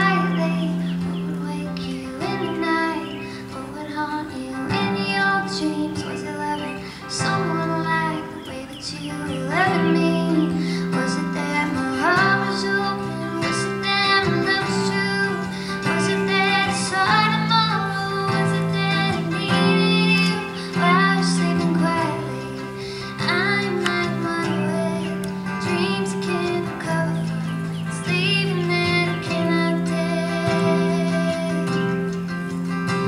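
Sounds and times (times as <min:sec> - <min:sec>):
acoustic guitar: 0:00.0 - 0:33.0
woman singing folk song: 0:00.0 - 0:33.0.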